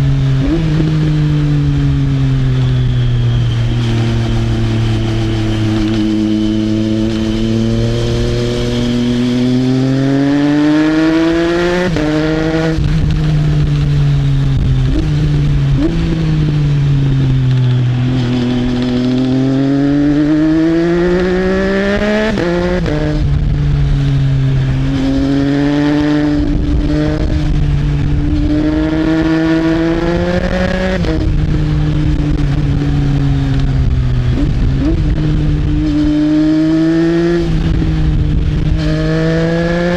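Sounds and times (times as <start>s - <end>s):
motorcycle engine through gears: 0.0s - 39.9s
wind noise: 0.0s - 39.9s.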